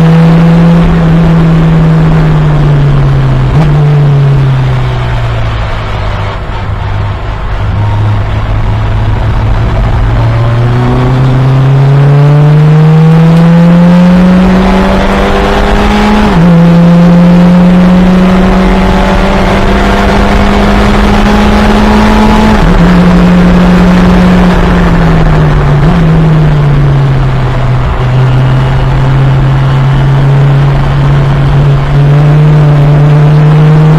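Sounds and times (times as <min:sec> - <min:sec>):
race car engine revving: 0:00.0 - 0:33.9.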